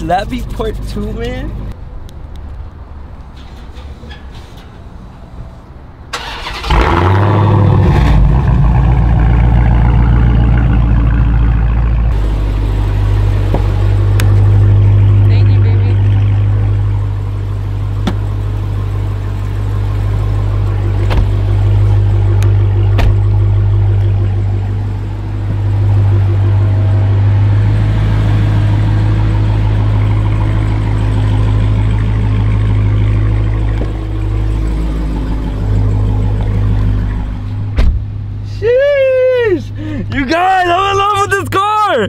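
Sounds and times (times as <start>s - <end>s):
car engine idling: 2.4s - 42.0s.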